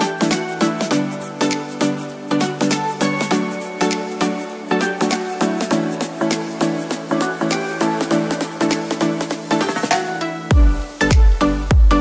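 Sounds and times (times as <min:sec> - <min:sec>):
electronic dance beat: 0:00.0 - 0:12.0.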